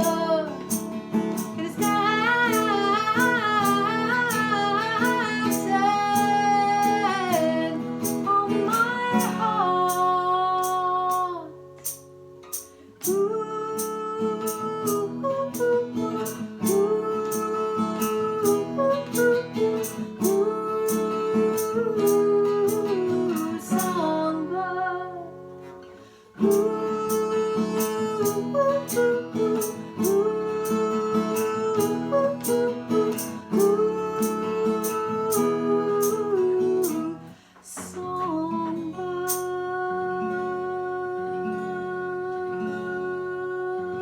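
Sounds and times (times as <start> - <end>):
woman singing wordless ooh: 0.0 - 11.6, 13.0 - 25.8, 26.4 - 44.0
acoustic guitar strumming: 0.0 - 44.0.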